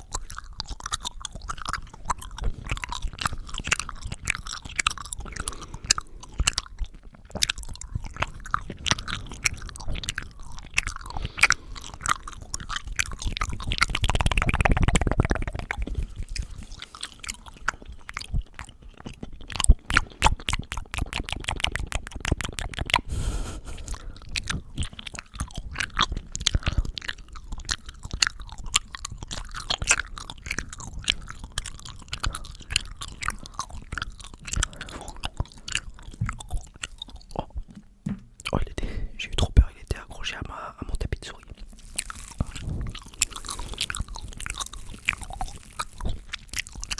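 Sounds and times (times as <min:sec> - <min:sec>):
wet mouth clicks and smacks: 0:00.0 - 0:46.9.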